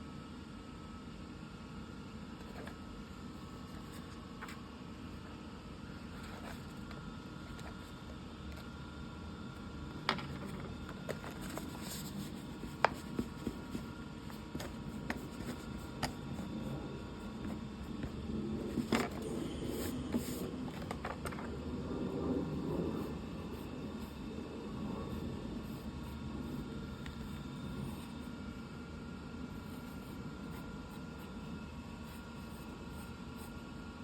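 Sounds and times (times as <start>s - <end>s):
low room hum: 0.0s - 34.0s.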